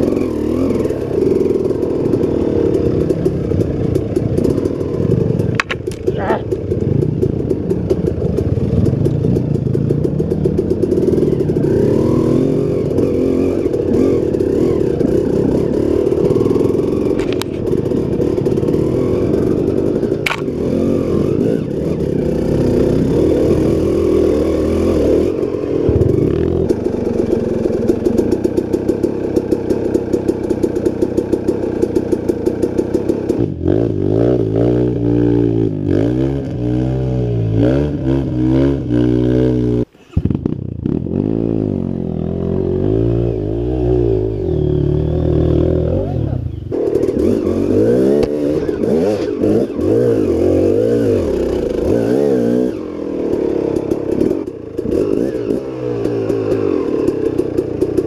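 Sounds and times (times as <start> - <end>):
bike rattling: 0.0 - 58.0
dirt bike engine revving: 0.0 - 58.0.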